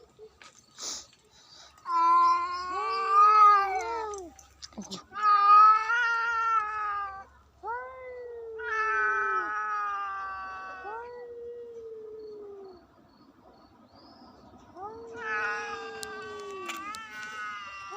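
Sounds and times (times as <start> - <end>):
cats caterwauling: 1.8 - 13.0, 14.6 - 17.9.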